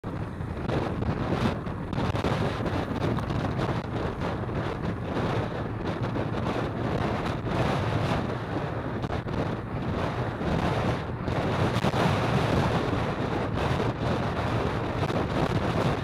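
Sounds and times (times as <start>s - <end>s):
road and traffic noise: 0.0s - 16.0s
wind buffeting microphone: 0.0s - 16.0s.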